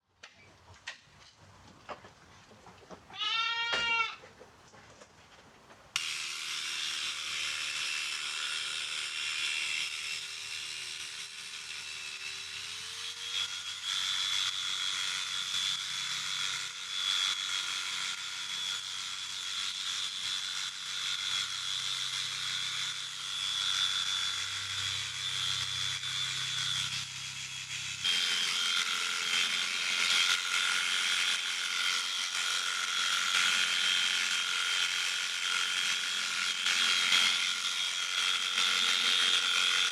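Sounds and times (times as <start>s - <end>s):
electric shears humming: 6.0s - 39.9s.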